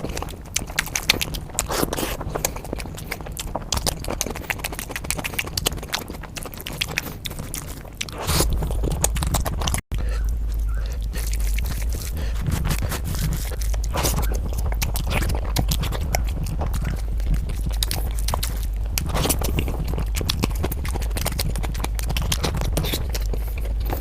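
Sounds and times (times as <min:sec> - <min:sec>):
wet chewing and mouth smacks: 0:00.0 - 0:24.0.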